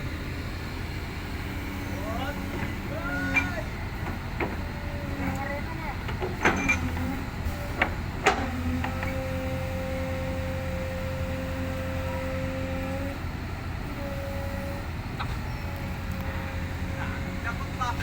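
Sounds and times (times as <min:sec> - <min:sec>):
backhoe diesel engine digging: 0:00.0 - 0:18.0.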